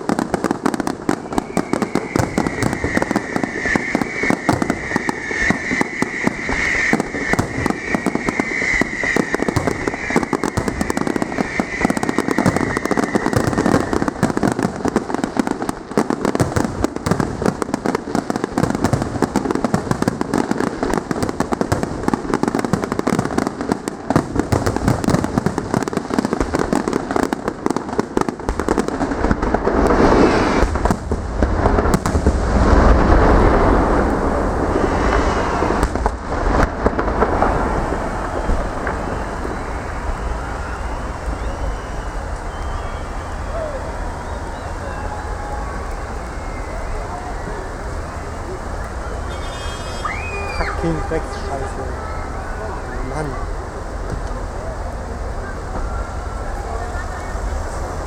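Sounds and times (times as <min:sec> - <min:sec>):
high firework whistle: 0:00.0 - 0:20.6, 0:29.6 - 0:31.0, 0:32.6 - 0:58.0
fireworks bangs and crackling: 0:00.0 - 0:58.0
heavy firework booms: 0:00.0 - 0:58.0.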